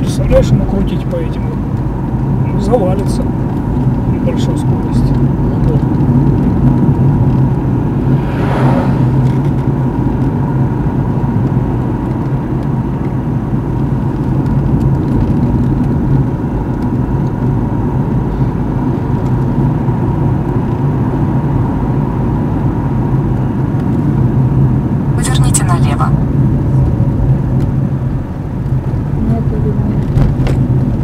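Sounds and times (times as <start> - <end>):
car engine drone and tyre noise: 0.0 - 31.0.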